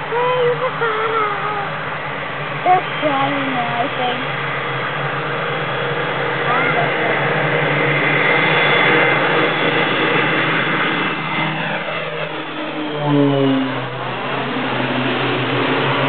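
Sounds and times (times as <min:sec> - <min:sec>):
propeller airplane engine passing: 0:00.0 - 0:16.0.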